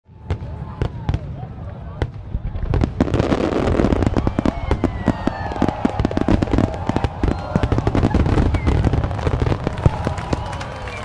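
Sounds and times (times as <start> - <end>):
fireworks cracking and popping: 2.0 - 11.0.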